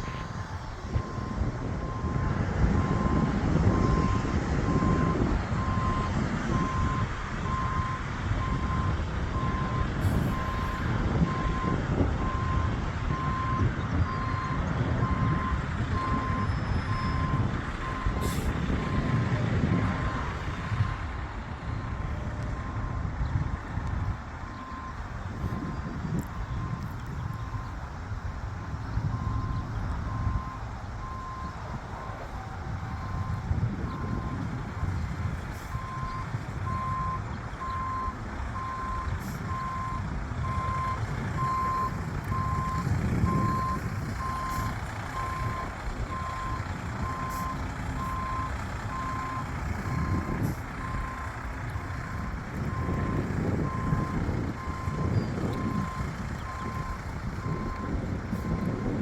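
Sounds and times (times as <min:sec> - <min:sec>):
truck engine rumble: 0:00.0 - 0:59.0
truck reverse alarm beeping: 0:00.0 - 0:59.0.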